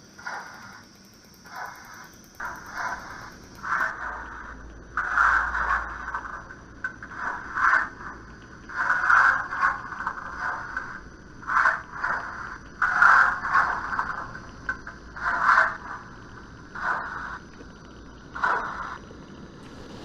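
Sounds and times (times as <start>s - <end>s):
faint high whine: 0.0s - 20.0s
steam locomotive exhaust chuffs: 0.0s - 20.0s.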